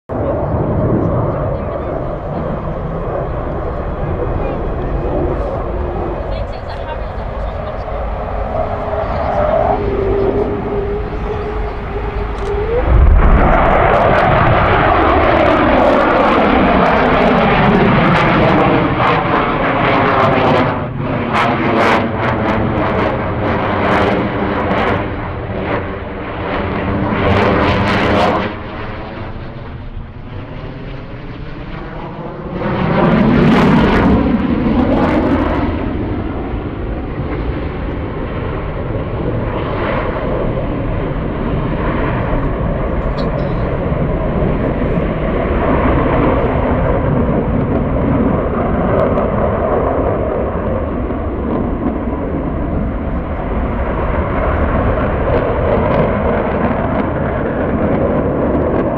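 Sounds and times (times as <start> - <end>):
fighter jet passing: 0.1 - 58.9
sharp crackling jet noise: 0.8 - 58.9.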